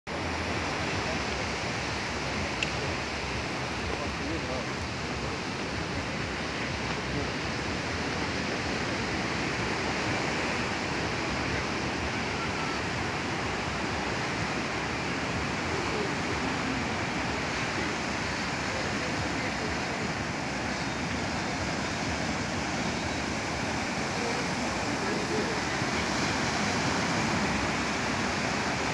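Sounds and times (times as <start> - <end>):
waves washing onto pebble beach: 0.6 - 28.9.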